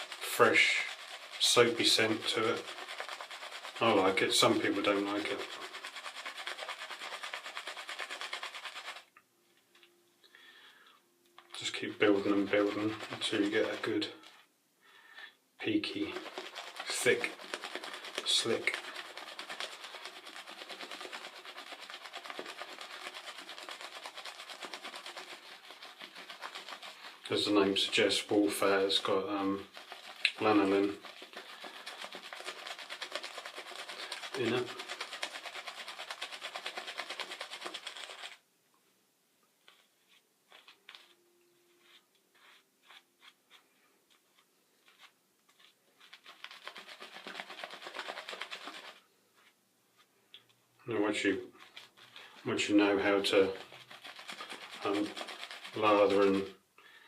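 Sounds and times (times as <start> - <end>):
shaving brush swishing in lather: 0.0 - 9.1, 11.5 - 14.4, 15.6 - 38.4, 39.7 - 49.6, 50.9 - 56.6.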